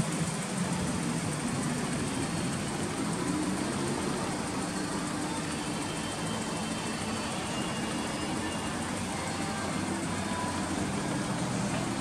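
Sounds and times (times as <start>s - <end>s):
engine idling: 0.0s - 12.0s
outdoor background noise: 0.0s - 12.0s.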